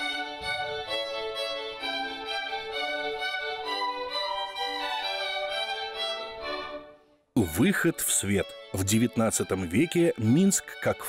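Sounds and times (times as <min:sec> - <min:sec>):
violins playing classical melody: 0:00.0 - 0:11.0.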